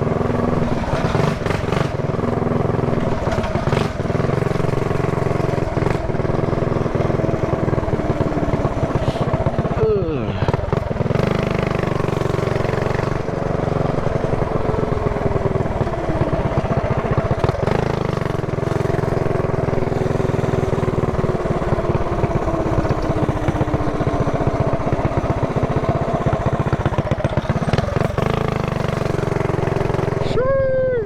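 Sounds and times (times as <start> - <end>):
small motorbike engine running: 0.0 - 31.0.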